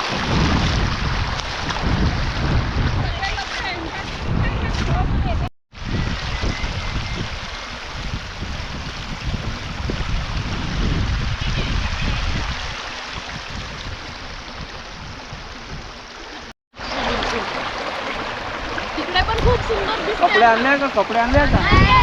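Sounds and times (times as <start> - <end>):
stream water rushing and gurgling: 0.0 - 5.0, 5.8 - 22.0.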